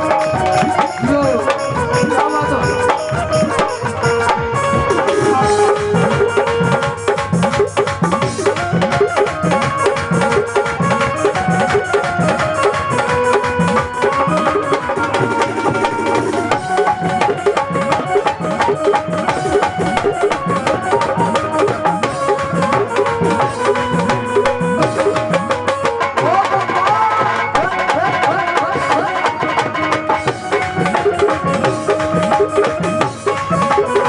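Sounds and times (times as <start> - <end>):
hand drum rhythm: 0.0 - 34.0
sustained melody line: 0.0 - 34.0.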